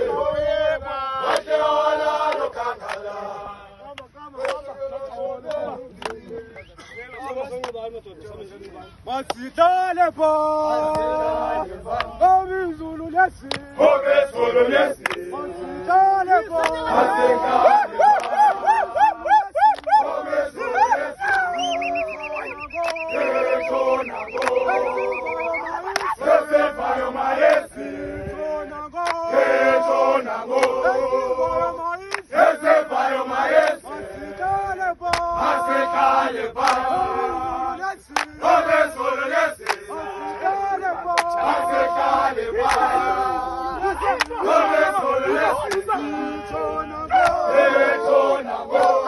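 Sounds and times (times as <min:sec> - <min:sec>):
men chanting in unison: 0:00.0 - 0:07.8, 0:08.4 - 0:49.0.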